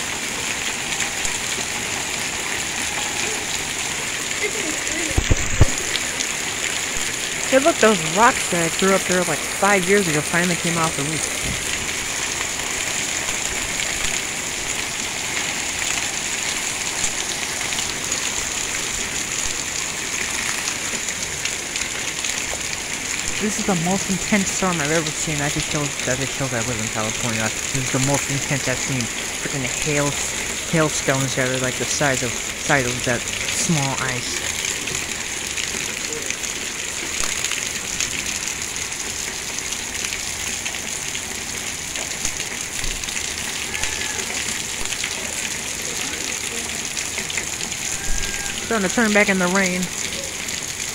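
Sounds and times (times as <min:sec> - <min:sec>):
hail and rain pelting a patio: 0:00.0 - 0:50.9.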